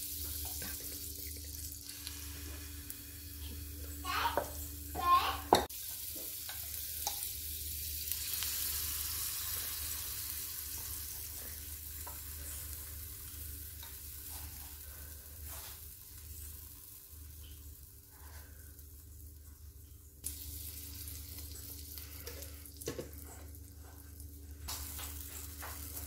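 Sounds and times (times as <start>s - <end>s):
steady low hum: 0.0s - 5.5s, 8.8s - 26.0s
batter sizzling in a frying pan: 0.0s - 26.0s.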